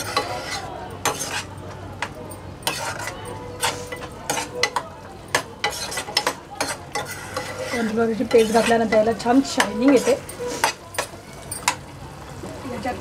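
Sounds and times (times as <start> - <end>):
metal spoon scraping a pan: 0.0 - 11.8.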